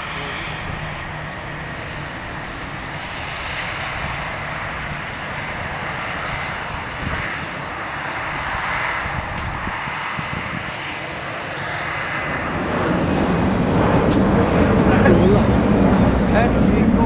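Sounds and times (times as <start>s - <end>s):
airliner engines roaring: 0.0s - 17.0s.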